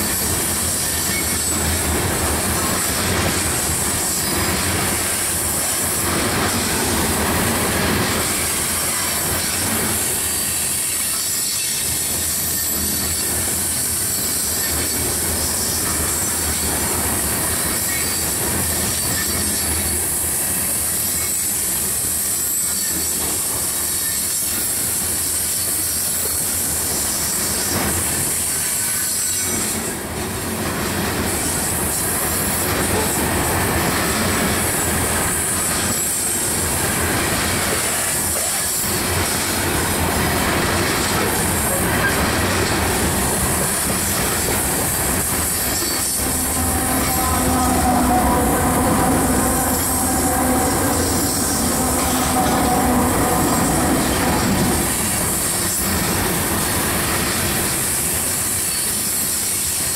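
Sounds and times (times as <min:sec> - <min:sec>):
wheels squealing on curved rail: 0:00.0 - 0:30.0, 0:31.3 - 0:59.9
train wheels rumbling on rail: 0:00.0 - 0:59.9.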